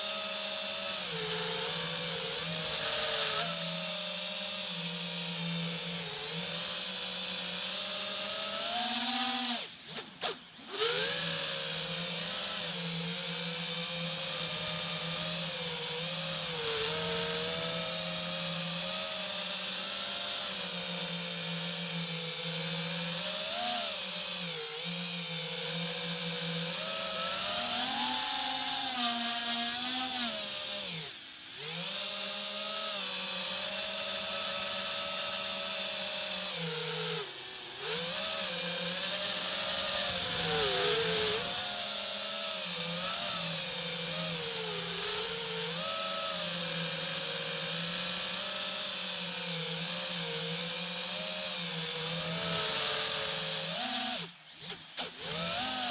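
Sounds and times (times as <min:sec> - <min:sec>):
quadcopter motors whining: 0:00.0 - 0:55.9.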